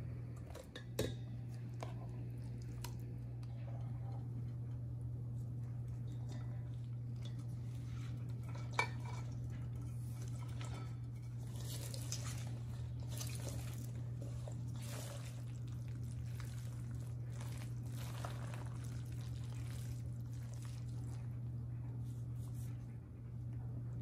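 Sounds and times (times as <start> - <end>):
low hum: 0.0 - 24.0
hands mixing wet paste in bowl: 1.4 - 23.6.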